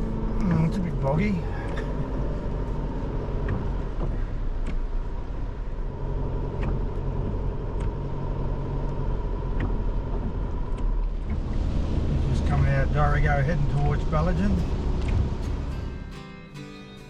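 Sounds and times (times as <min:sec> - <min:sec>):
vehicle engine and road rumble: 0:00.0 - 0:16.7.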